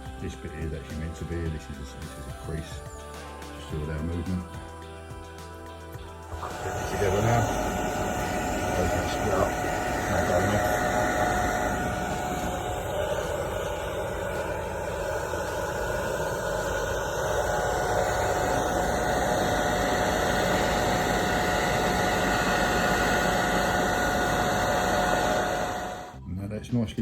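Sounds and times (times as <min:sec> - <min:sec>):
hot-air blower running: 0:00.0 - 0:26.2.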